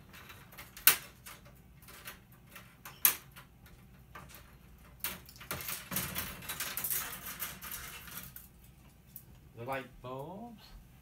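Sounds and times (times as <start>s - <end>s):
thin bars clicking and rattling: 0.0s - 9.3s.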